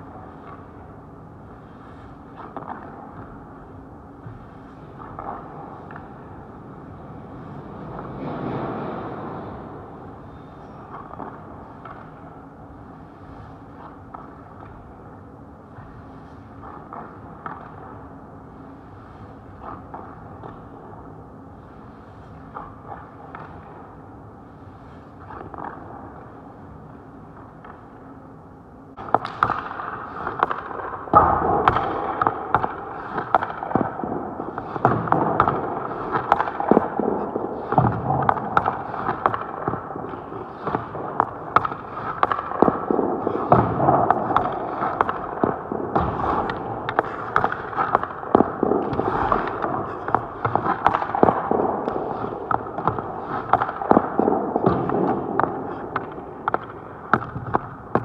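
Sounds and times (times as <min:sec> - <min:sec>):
hockey stick and puck on ice: 0:00.0 - 0:28.1, 0:29.0 - 0:58.0.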